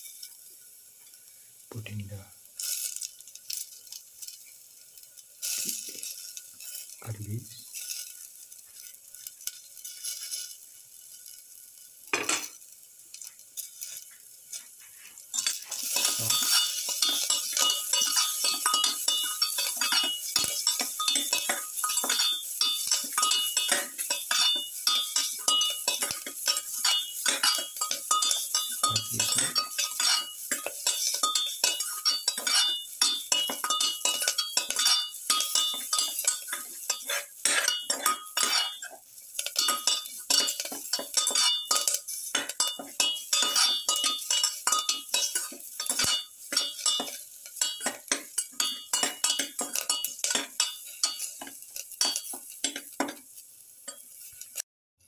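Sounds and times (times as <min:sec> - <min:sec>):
spatula scraping a pan: 0:07.7 - 0:11.4, 0:13.1 - 0:54.6.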